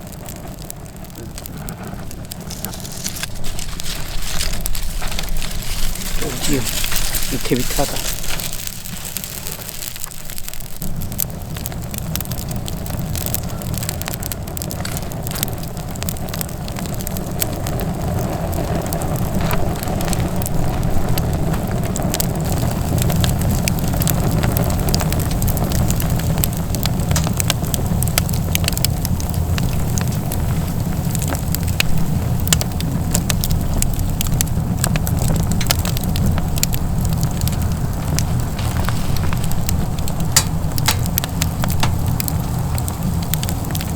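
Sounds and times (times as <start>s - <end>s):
firewood crackling and popping: 0.0s - 43.9s
steady low rumble: 0.0s - 43.9s.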